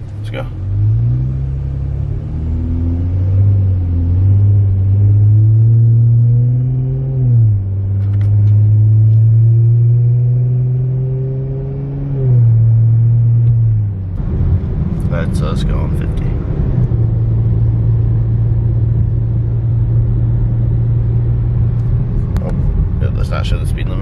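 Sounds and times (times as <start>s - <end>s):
car engine accelerating hard: 0.2s - 24.0s.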